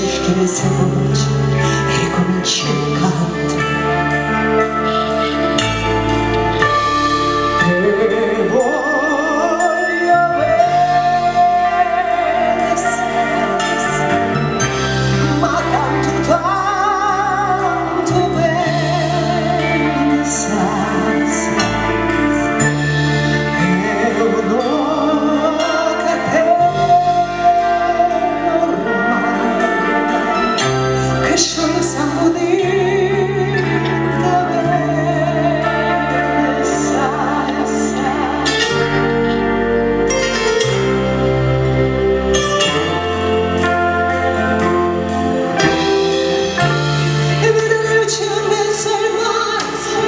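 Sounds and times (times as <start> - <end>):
woman singing with vibrato: 0.0 - 6.4, 7.5 - 39.6, 42.7 - 50.0
band playing with bass: 0.0 - 50.0.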